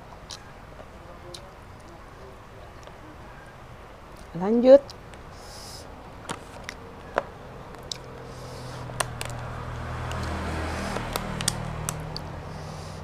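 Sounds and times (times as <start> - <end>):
low vehicle engine hum: 0.0 - 13.0.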